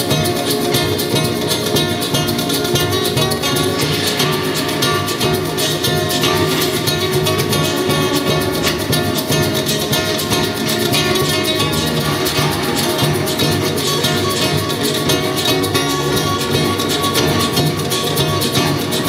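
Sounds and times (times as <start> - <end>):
fingerstyle acoustic guitar: 0.0 - 19.0.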